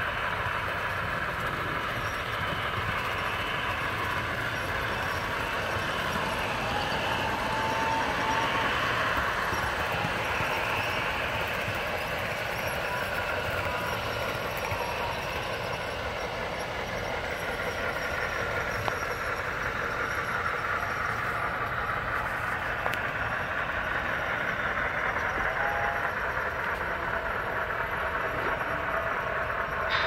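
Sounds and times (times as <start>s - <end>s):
model train rolling whir: 0.0s - 30.0s.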